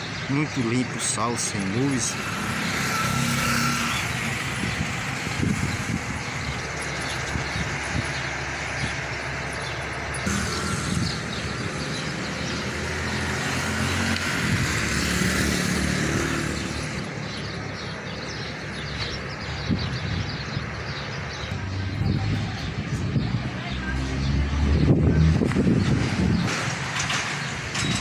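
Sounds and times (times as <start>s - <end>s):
street traffic: 0.0s - 28.0s
vehicle engine passing close: 0.6s - 19.9s, 21.4s - 28.0s.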